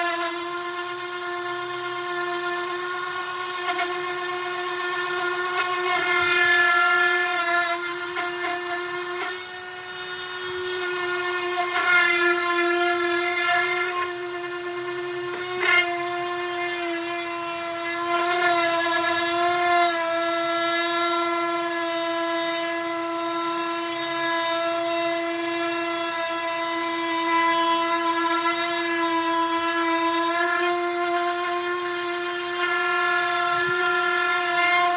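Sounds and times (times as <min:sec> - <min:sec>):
electric sander on wood: 0:00.0 - 0:34.9.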